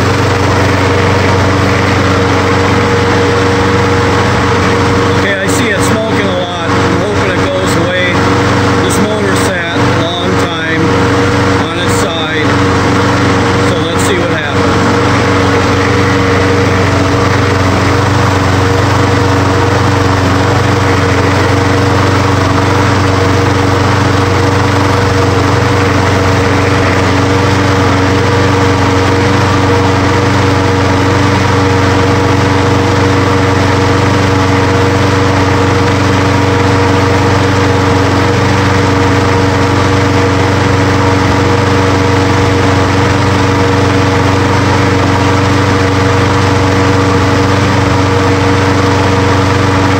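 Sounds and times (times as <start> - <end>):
lawn mower engine running: 0.0 - 49.9.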